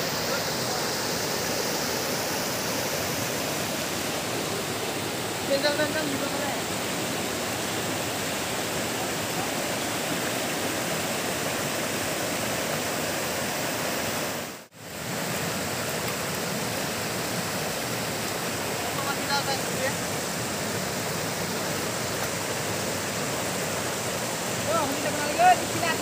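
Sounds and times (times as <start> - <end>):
stream rushing over boulders: 0.0 - 26.0.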